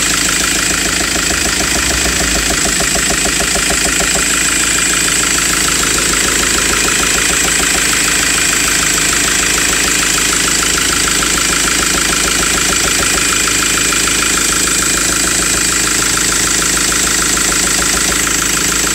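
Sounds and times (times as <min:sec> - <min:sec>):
rapid engine knock: 0:00.0 - 0:18.9
van engine idling: 0:00.0 - 0:18.9.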